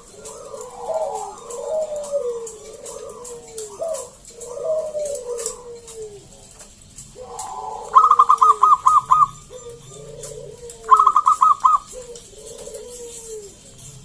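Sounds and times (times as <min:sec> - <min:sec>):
dove staccato cooing: 0:00.0 - 0:14.0
soft low falling coo: 0:00.0 - 0:14.0.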